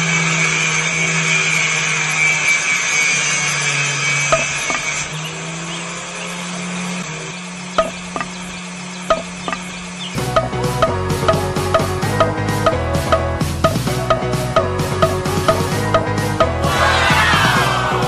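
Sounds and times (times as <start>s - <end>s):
electric saw motor running: 0.0s - 18.0s
high saw whine: 0.0s - 18.0s.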